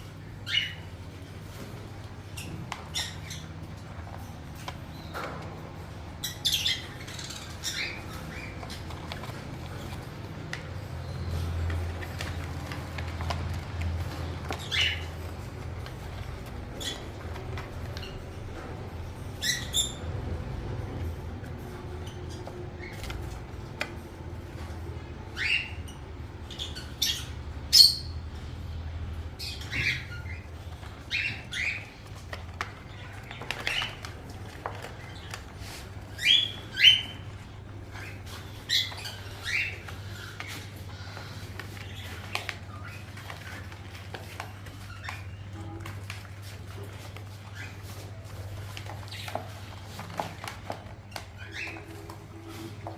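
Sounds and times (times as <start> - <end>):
baby parrots chirping and squawking: 0.2 - 0.9, 1.5 - 5.4, 6.2 - 18.4, 19.1 - 20.2, 25.4 - 28.4, 29.4 - 52.9.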